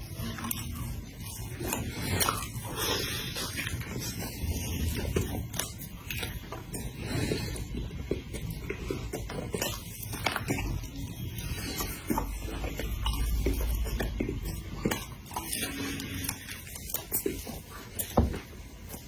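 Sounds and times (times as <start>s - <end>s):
person chewing: 0.0s - 19.0s.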